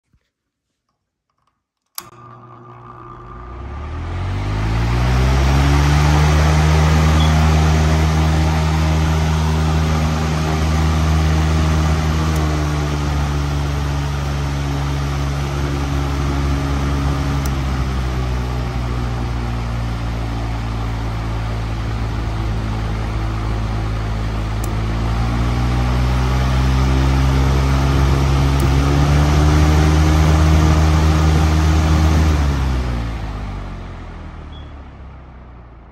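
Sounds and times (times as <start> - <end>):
electric fan motor humming: 2.0 - 34.7
fan air rushing: 3.5 - 34.6.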